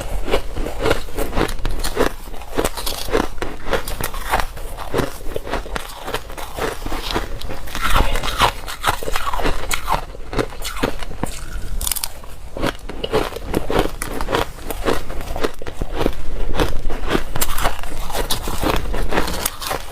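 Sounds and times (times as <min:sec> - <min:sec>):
chewing crunchy ice: 0:00.0 - 0:19.9.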